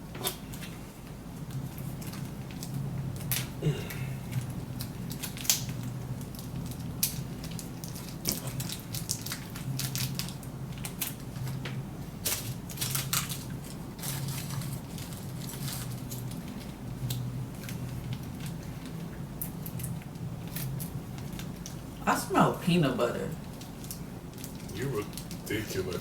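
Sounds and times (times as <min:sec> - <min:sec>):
steady low hum: 0:00.0 - 0:26.0
food packaging crinkling: 0:01.4 - 0:11.6, 0:12.2 - 0:21.9, 0:23.4 - 0:26.0.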